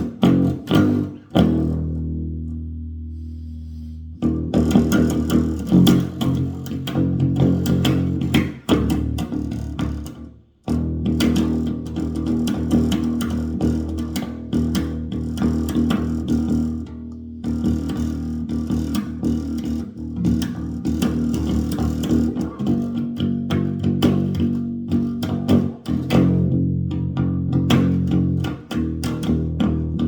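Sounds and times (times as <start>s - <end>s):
electric bass guitar: 0.0s - 30.0s.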